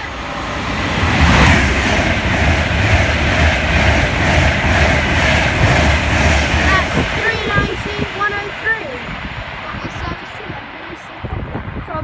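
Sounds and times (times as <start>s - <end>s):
electric train passing at speed: 0.0s - 12.0s.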